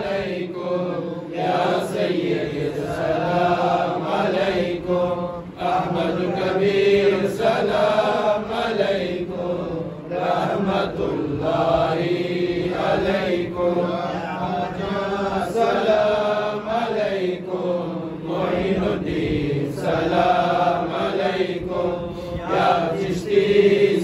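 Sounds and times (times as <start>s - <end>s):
men chanting unaccompanied: 0.0s - 24.0s.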